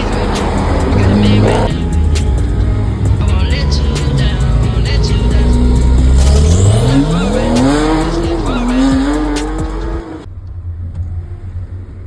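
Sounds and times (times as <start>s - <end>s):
low rumble: 0.0s - 11.9s
motorcycle engine accelerating: 0.0s - 12.0s.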